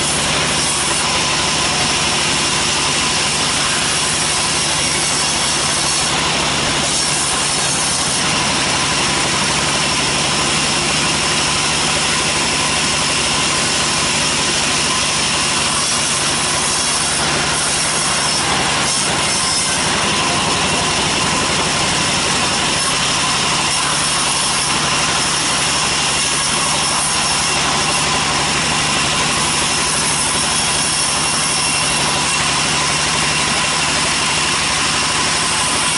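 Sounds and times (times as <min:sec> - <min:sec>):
bandsaw cutting log: 0:00.0 - 0:35.9.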